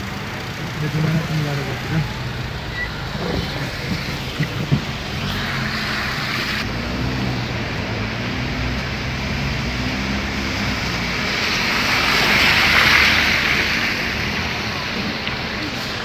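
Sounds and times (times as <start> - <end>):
car passing close: 0.0 - 16.0
low engine hum: 0.0 - 16.0
rain and tyres hissing through water: 0.0 - 16.0.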